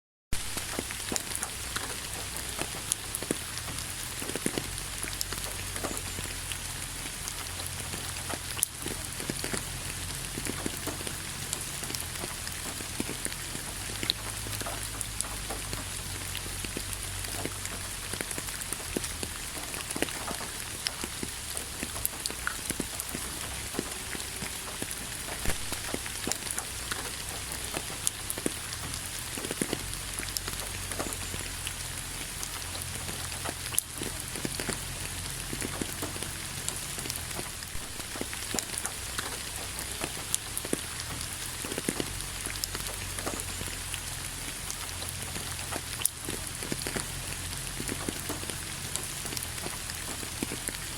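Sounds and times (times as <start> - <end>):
raindrops ticking on a surface: 0.3 - 50.9
steady rain hiss: 0.3 - 50.9.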